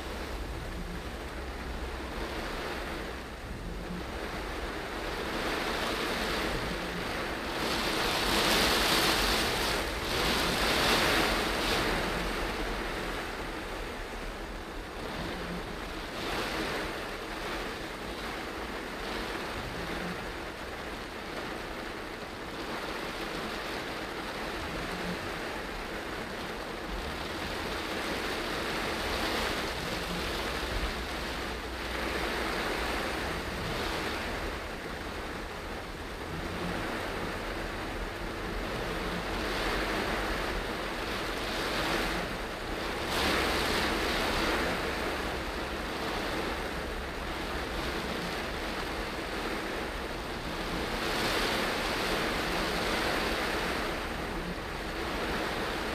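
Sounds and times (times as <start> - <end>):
heavy rain drumming on car roof: 0.0 - 55.9
tyres hissing on wet road: 0.0 - 55.9.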